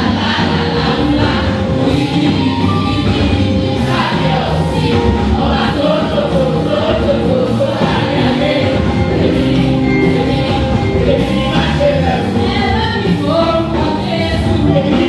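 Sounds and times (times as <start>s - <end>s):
choir singing gospel: 0.0s - 15.0s
musical accompaniment: 0.0s - 15.0s.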